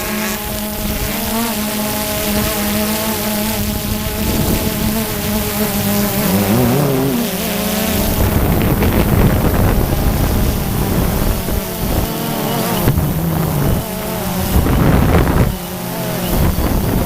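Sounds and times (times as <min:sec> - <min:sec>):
drone propellers buzzing: 0:00.0 - 0:17.0
wind on microphone: 0:00.0 - 0:17.0.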